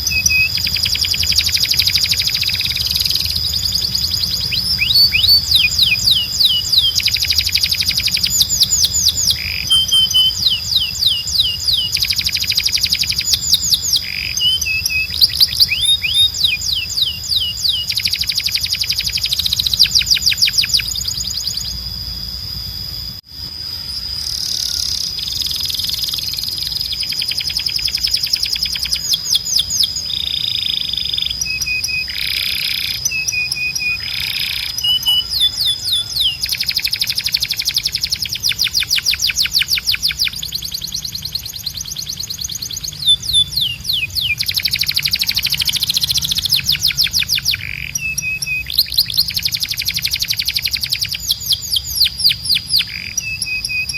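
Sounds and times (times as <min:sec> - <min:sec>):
steady high tone: 0:00.0 - 0:48.7
canary singing trills and whistles: 0:00.0 - 0:53.9.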